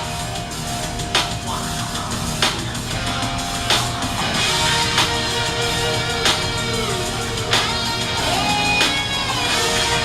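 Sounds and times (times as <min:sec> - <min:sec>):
electric guitar: 0:00.0 - 0:10.0
live band music: 0:00.0 - 0:10.0.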